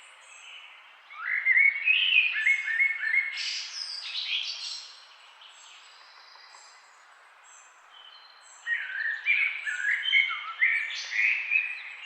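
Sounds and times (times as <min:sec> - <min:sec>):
bird song: 0:00.0 - 0:12.0.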